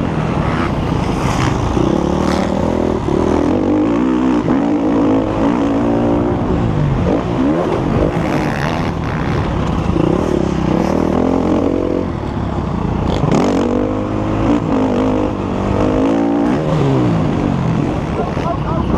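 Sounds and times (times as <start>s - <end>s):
motocross bike engine revving: 0.0s - 12.2s, 13.0s - 18.9s.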